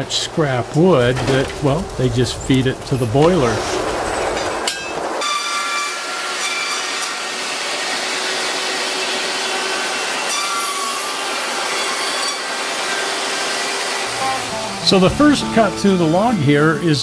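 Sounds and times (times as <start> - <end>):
circular saw mechanical din: 0.0 - 17.0
saw blade whine: 0.8 - 17.0.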